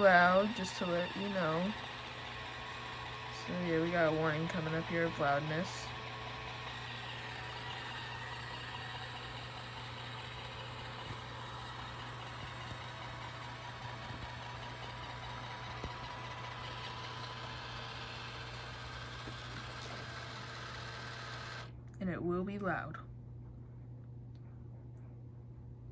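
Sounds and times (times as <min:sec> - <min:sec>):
robot vacuum humming: 0:00.0 - 0:21.7.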